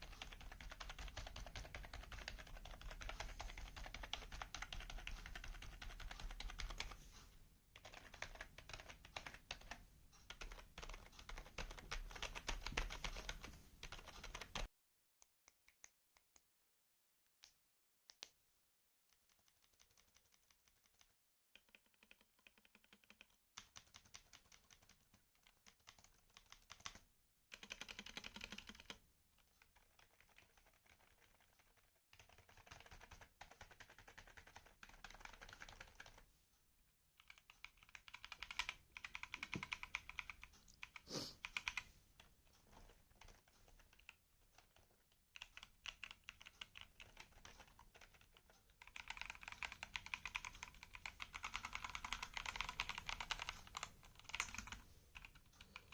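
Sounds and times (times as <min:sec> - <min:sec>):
computer keyboard typing: 0:00.0 - 0:07.2, 0:07.8 - 0:14.7, 0:19.3 - 0:36.3, 0:37.2 - 0:55.9.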